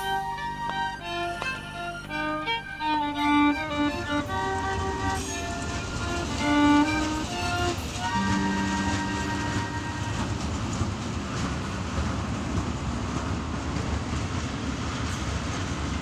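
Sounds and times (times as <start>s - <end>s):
faint rail clatter: 0.0s - 16.0s
train wagons rumbling: 0.0s - 16.0s.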